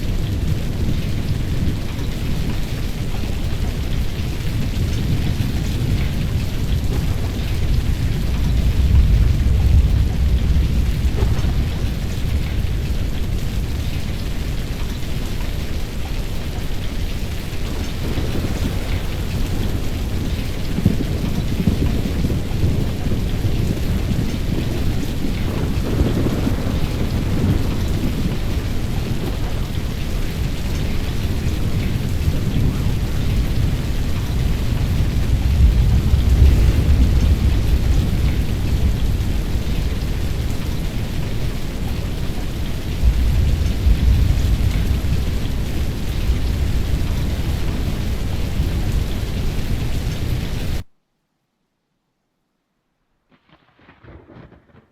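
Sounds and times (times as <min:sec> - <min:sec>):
low rumbling thunder: 0:00.0 - 0:50.8, 0:53.3 - 0:54.9
steady rain: 0:00.0 - 0:50.9.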